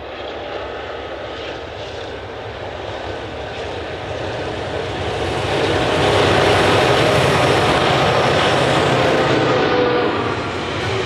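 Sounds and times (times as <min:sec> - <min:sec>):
locomotive engine drone: 0:00.0 - 0:11.0
train wheels on rails: 0:00.0 - 0:11.0.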